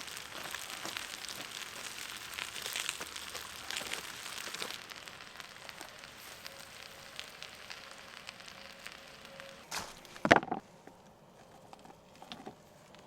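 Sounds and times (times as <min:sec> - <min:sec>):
hiss of burning wood: 0:00.0 - 0:11.1
campfire crackling and popping: 0:00.0 - 0:13.0.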